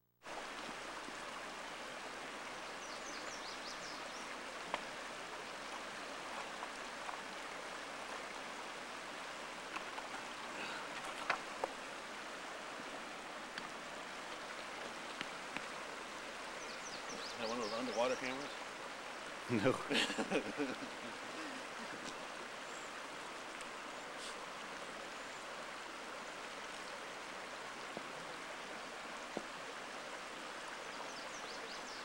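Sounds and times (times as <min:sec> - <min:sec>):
creek flowing over rocks: 0:00.2 - 0:32.0.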